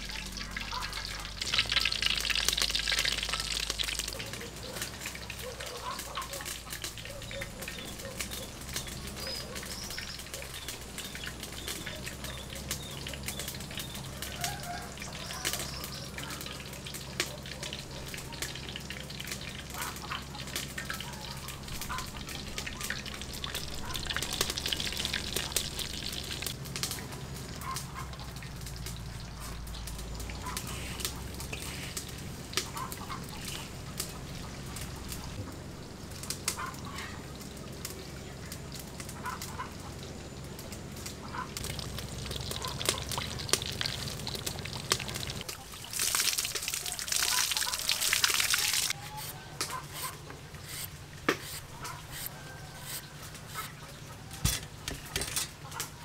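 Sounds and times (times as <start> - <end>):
small crackles: 0.0 - 56.0.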